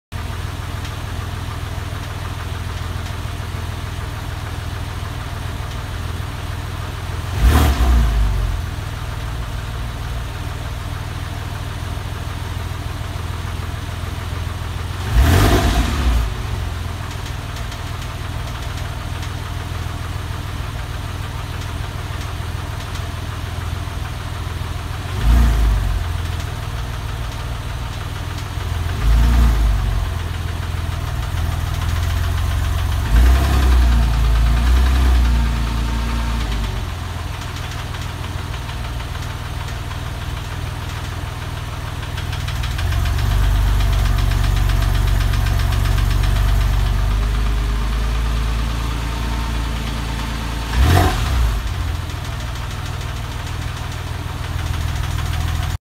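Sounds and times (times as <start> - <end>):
car engine idling and revving: 0.1 - 55.8.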